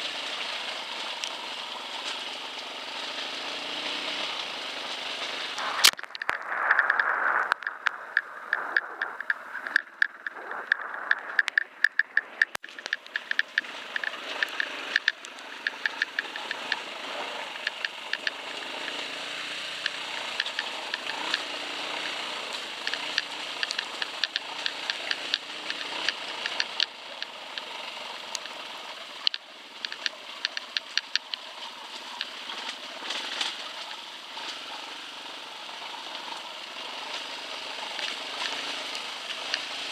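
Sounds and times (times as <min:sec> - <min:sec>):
dirt bike engine running: 0:00.0 - 0:39.9
sharp clicks and rattles: 0:00.1 - 0:39.9.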